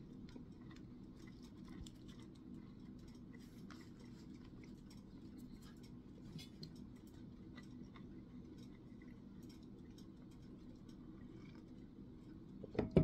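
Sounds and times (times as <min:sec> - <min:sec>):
faint chewing: 0:00.0 - 0:12.8
low room hum: 0:00.0 - 0:13.0.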